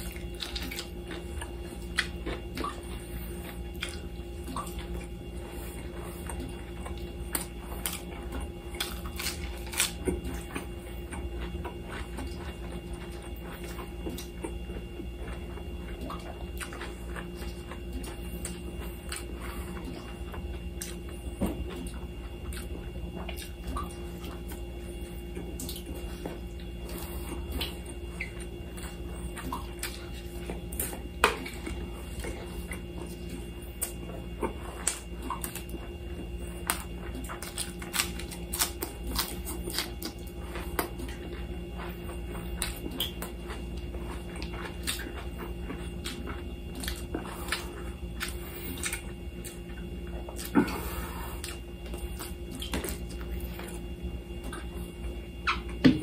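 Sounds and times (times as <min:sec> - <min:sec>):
chewing and lip-smacking: 0:00.0 - 0:56.0.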